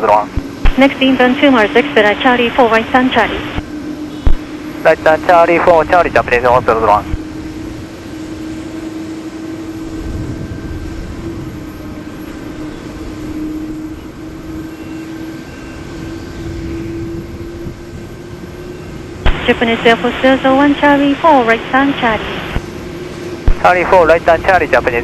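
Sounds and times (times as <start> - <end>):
jet engines droning: 0.0 - 25.0.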